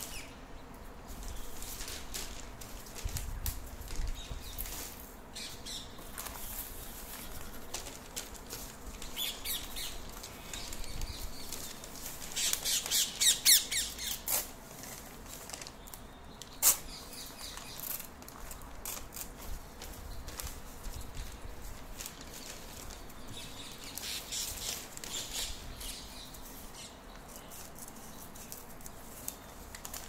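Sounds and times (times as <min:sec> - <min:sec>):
paper rustling and crinkling: 0:01.1 - 0:30.0.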